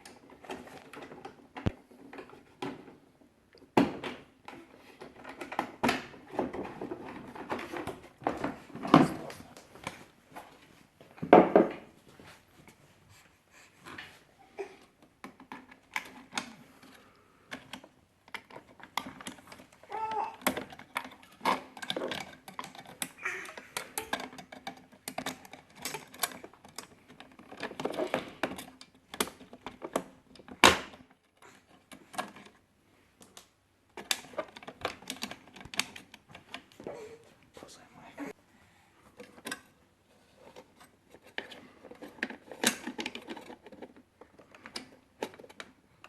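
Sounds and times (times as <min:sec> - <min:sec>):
plastic parts clicking and rattling: 0:00.0 - 0:03.1, 0:03.8 - 0:10.1, 0:14.8 - 0:36.9, 0:39.1 - 0:46.0.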